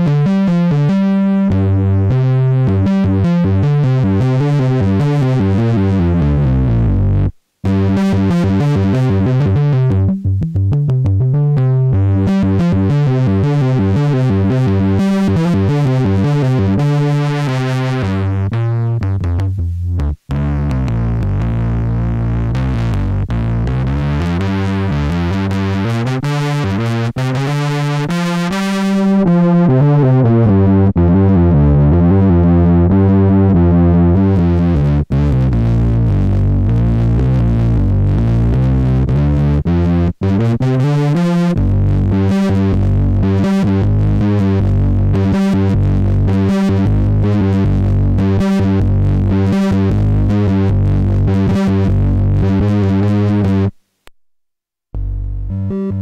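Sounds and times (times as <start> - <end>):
distorted synthesizer notes: 0.0 - 53.8, 54.9 - 56.0.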